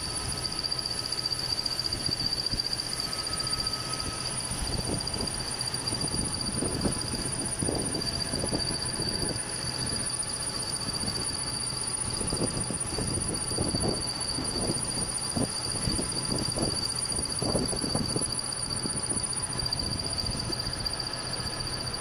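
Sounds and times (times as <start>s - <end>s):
milling machine whining: 0.0s - 22.0s.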